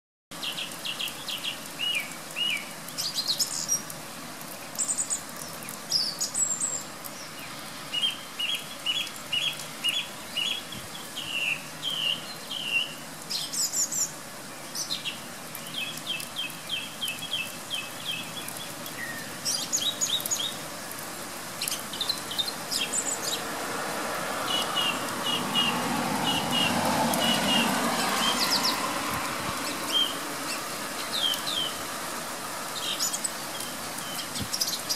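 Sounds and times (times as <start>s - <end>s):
song thrush singing: 0.3s - 3.9s, 4.6s - 20.7s, 21.6s - 23.5s, 24.5s - 32.0s, 32.7s - 34.9s
heavy rain hissing: 0.3s - 34.9s.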